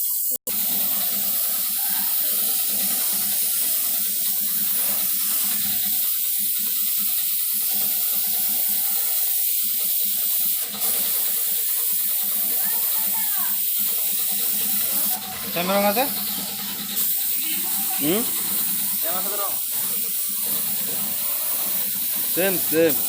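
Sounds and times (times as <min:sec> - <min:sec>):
spray paint hissing: 0:00.0 - 0:23.0.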